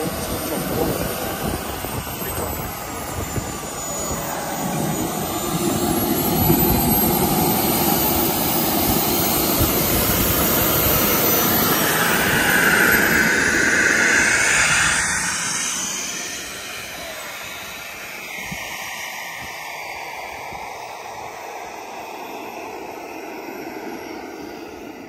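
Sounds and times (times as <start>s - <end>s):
model jet turbine whine: 0.0s - 25.0s.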